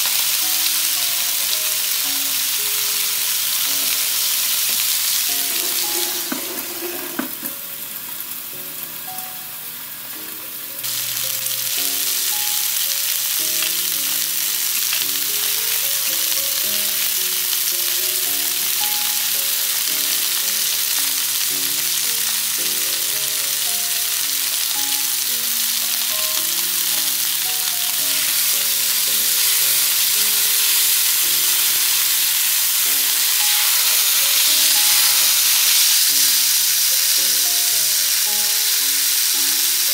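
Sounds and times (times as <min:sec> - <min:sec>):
gentle melodic background music: 0:00.0 - 0:39.9
steak sizzling on griddle: 0:00.0 - 0:39.9.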